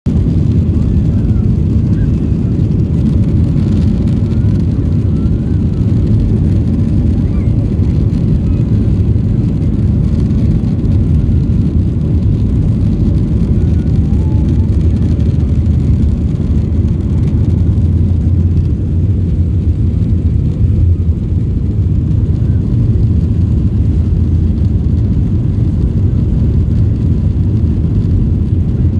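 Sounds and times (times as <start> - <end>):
jet engines at takeoff power: 0.1 - 28.9.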